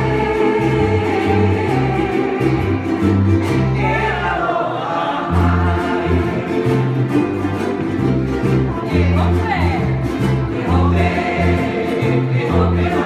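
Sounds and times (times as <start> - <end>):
bass line: 0.0 - 4.4, 5.3 - 13.0
group of voices singing: 0.0 - 13.0
ukulele strumming: 0.0 - 13.0.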